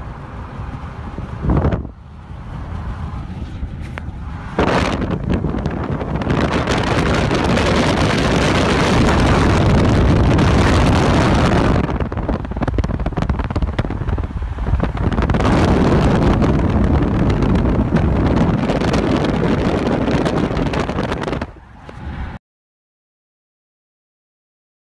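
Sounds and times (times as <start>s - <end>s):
tyre and wind noise: 0.0s - 22.4s.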